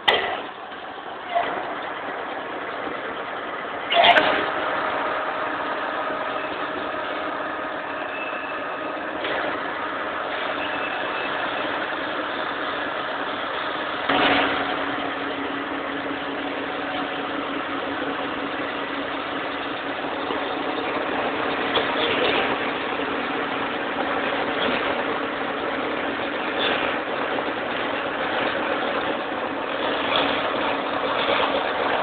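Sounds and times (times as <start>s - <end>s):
machine tools humming: 0.0s - 32.0s.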